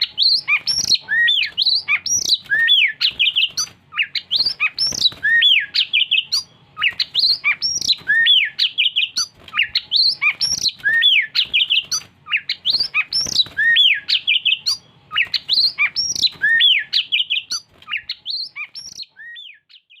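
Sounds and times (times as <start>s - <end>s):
bird singing whistles and chips: 0.0s - 20.0s.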